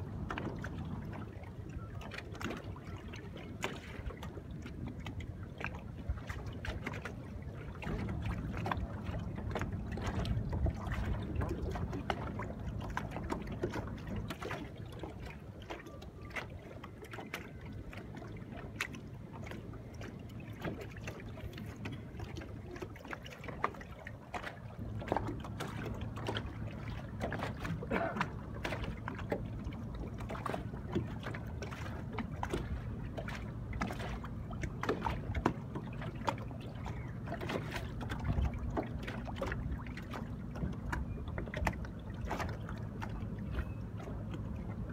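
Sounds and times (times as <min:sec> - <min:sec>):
water slapping a boat hull: 0:00.0 - 0:44.9.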